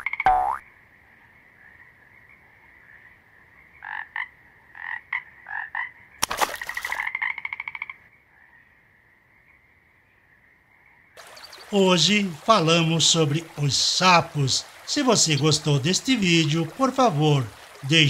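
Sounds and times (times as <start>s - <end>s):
frogs croaking: 0.0s - 18.0s
high-pitched frog chorus: 0.0s - 18.0s.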